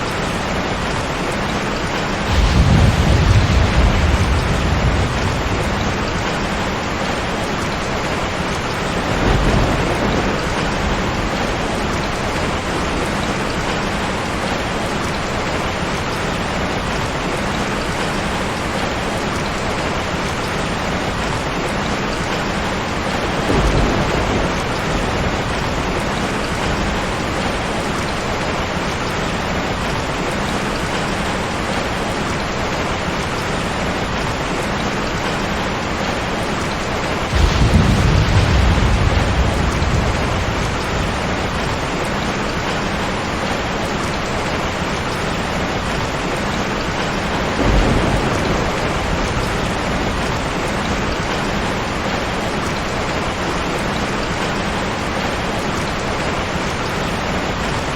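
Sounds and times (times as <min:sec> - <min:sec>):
thunder rumbling: 0:00.0 - 0:16.7, 0:22.2 - 0:29.7, 0:35.6 - 0:57.9
steady rain: 0:00.0 - 0:57.9.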